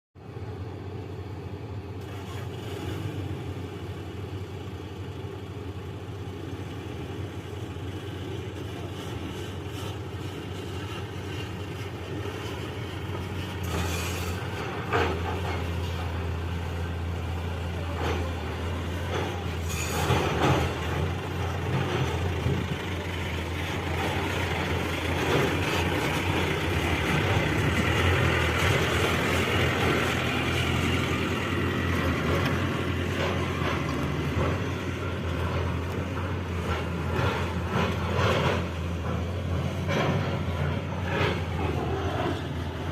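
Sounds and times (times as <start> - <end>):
diesel engine running: 0.2 - 42.9.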